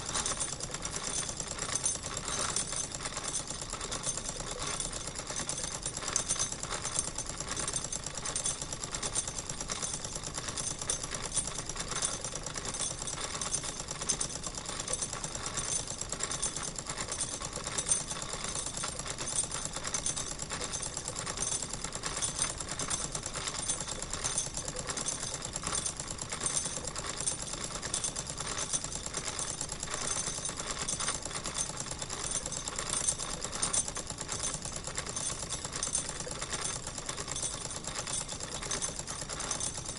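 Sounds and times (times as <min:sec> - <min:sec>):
model steam engine clattering: 0:00.0 - 0:39.9.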